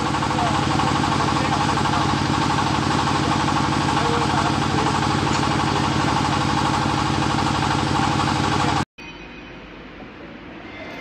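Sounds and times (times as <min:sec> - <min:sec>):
drilling rig engine running: 0:00.0 - 0:08.8.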